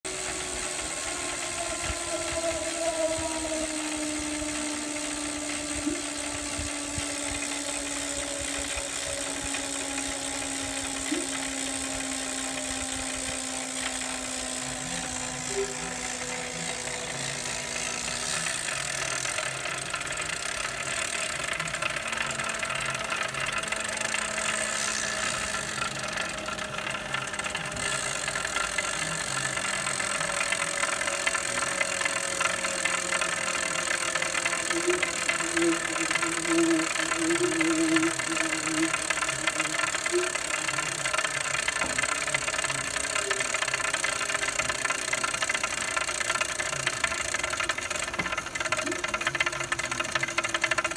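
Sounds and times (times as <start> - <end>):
trainer flywheel whine: 0.0 - 50.9.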